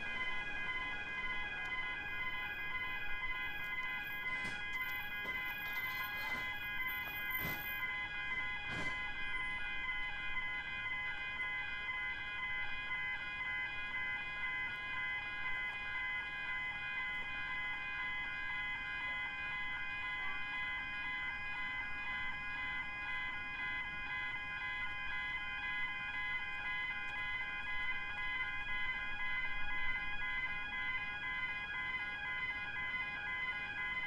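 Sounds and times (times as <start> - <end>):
level crossing alarm bells: 0.0 - 34.0.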